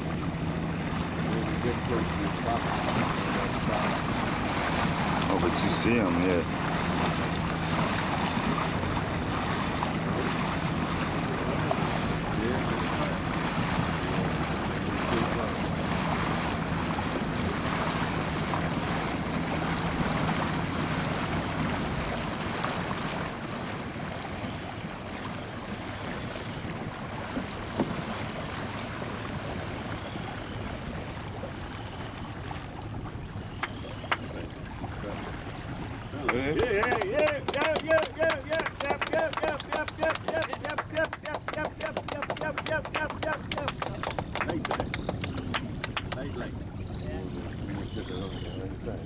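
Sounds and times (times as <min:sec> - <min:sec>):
boat motor humming: 0:00.0 - 0:49.0
water rushing past hull: 0:00.0 - 0:49.0.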